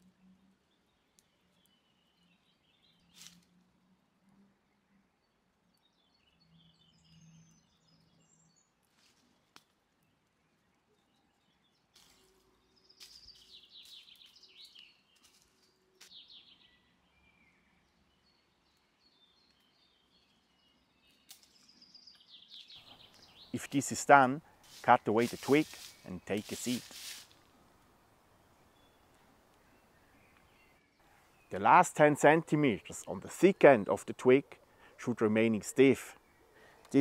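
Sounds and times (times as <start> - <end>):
faint songbird chirps: 0.0 - 27.6, 28.2 - 37.0.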